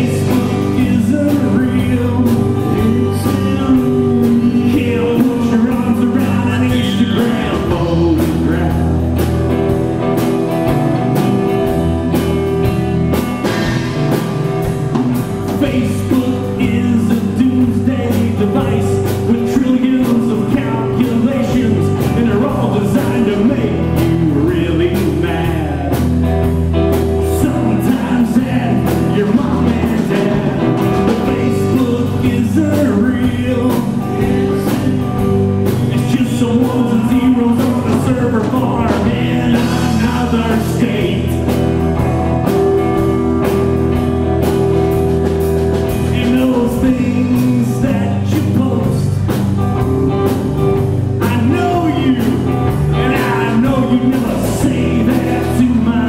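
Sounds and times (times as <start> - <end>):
drum kit beat: 0.0 - 56.0
electric bass guitar: 0.0 - 56.0
electric guitar lead: 0.0 - 56.0.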